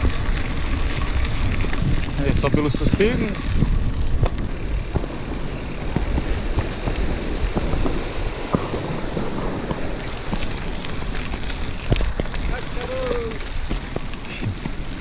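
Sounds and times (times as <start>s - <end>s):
bicycle tyres on rough track: 0.0s - 15.0s
wind rushing over microphone: 0.0s - 15.0s.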